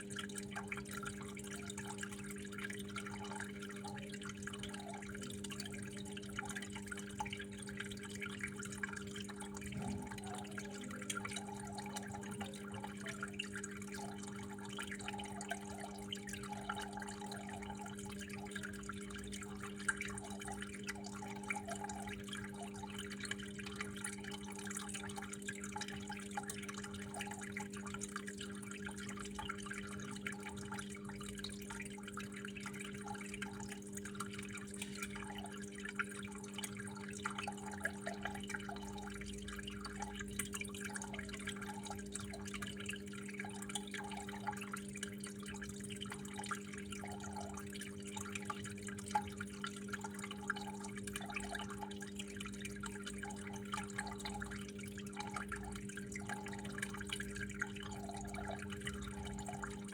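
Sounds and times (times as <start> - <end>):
water running and dripping: 0.0 - 59.9.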